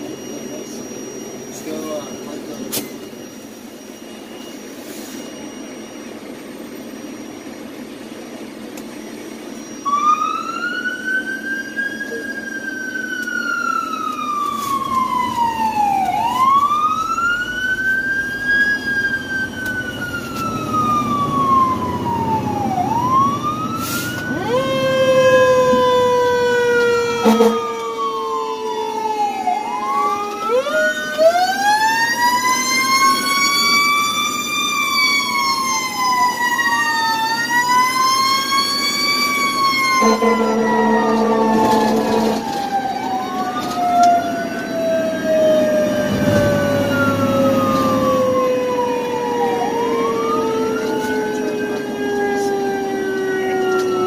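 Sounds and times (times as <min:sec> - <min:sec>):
engine and road rumble: 0:00.0 - 0:54.0
fire truck siren wailing: 0:00.0 - 0:54.0
lower siren tone sliding downward: 0:09.5 - 0:54.0.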